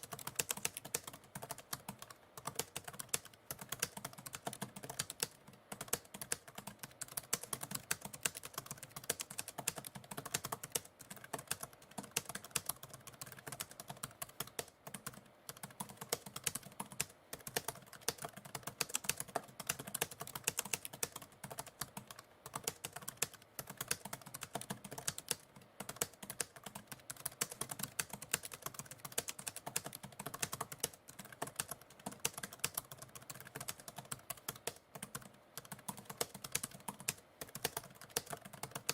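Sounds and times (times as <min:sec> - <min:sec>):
typewriter keys clicking: 0:00.0 - 0:38.9.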